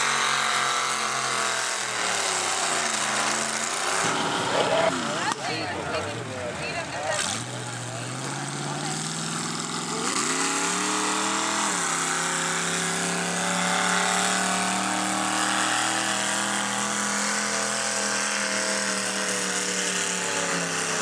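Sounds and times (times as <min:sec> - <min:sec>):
tractor engine at high revs: 0:00.0 - 0:21.0.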